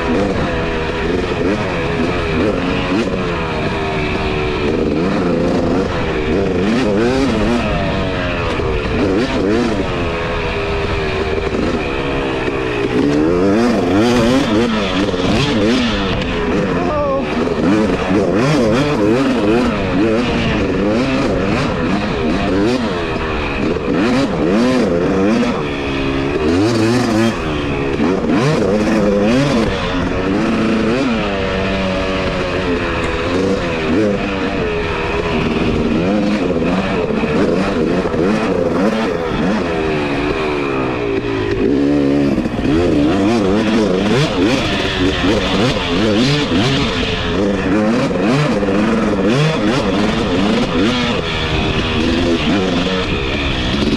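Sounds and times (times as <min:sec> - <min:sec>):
two-stroke dirt bike engine revving: 0:00.0 - 0:53.9.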